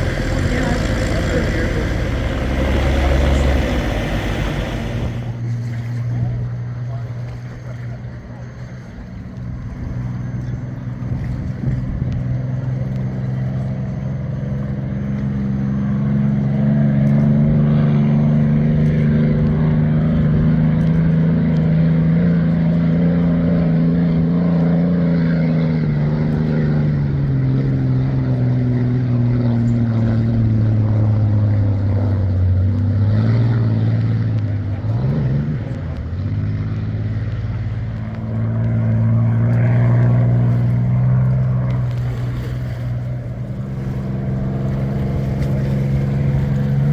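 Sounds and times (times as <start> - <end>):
aircraft engine running loud: 0.0 - 46.9.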